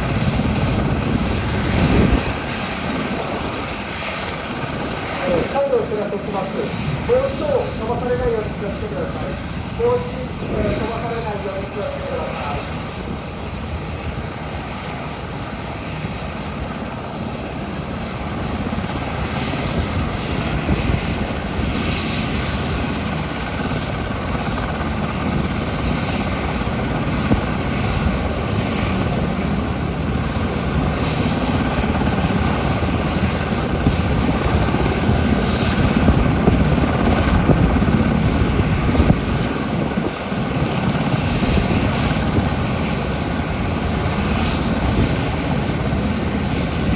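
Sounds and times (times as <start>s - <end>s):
helicopter rotor and engine whine: 0.0s - 46.9s.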